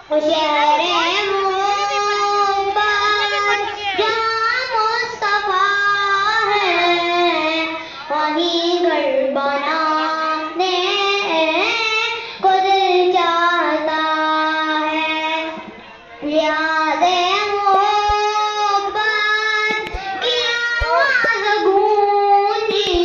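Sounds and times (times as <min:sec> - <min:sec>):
boy singing through loudspeaker: 0:00.0 - 0:23.0.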